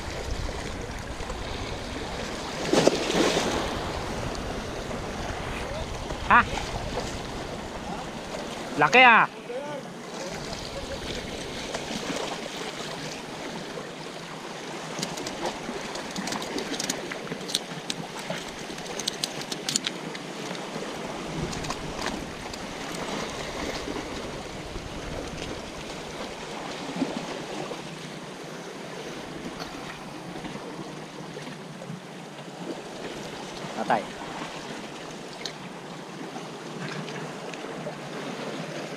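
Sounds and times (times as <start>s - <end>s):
waves splashing among boulders: 0.0s - 38.9s.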